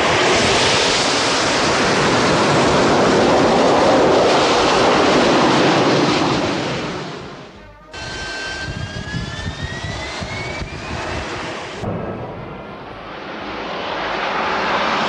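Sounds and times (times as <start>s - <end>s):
loud rushing noise: 0.0s - 15.0s.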